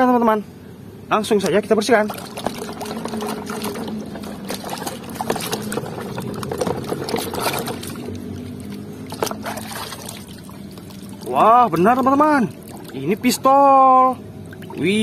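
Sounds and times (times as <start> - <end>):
soapy water splashing and sloshing: 1.4 - 13.5, 14.3 - 15.0.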